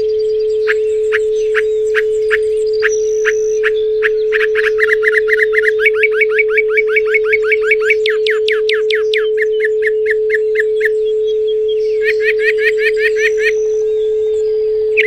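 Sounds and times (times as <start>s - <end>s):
songbird singing: 0.0s - 15.0s
steady pure tone: 0.0s - 15.0s.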